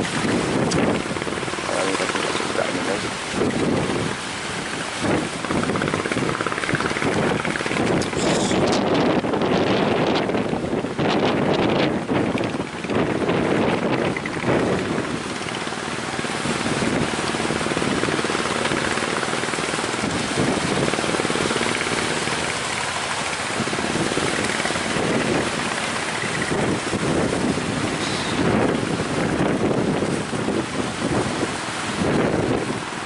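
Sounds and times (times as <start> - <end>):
outboard engine running: 0.0 - 33.0
water rushing and splashing: 0.0 - 33.0
wind buffeting microphone: 0.0 - 33.0.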